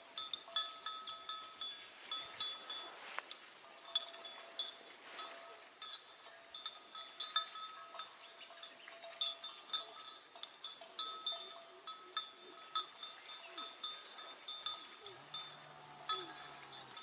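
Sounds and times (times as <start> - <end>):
small bells ringing: 0.0 - 17.0.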